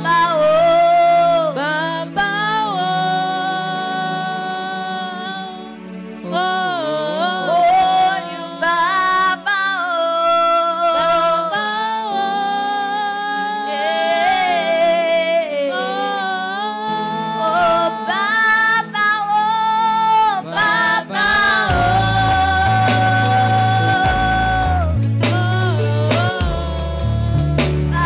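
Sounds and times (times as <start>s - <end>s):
people singing worship song: 0.0s - 28.0s.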